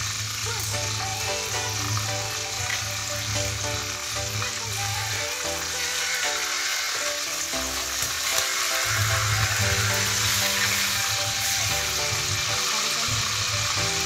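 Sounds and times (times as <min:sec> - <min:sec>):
background music with held notes: 0:00.0 - 0:14.0
chicken sizzling in hot oil: 0:00.0 - 0:14.0
tongs turning food: 0:00.4 - 0:14.0.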